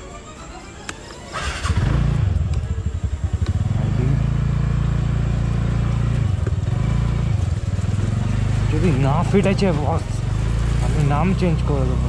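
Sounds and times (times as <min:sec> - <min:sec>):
scooter engine pulling away: 0:01.2 - 0:12.0.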